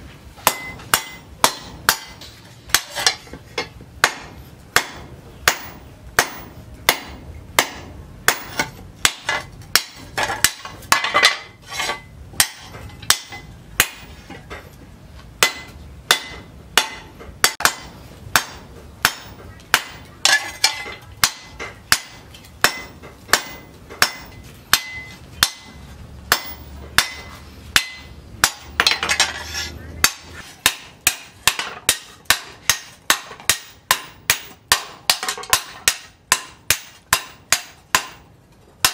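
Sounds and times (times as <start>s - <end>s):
hammer striking steel: 0.4s - 14.7s, 15.4s - 38.9s.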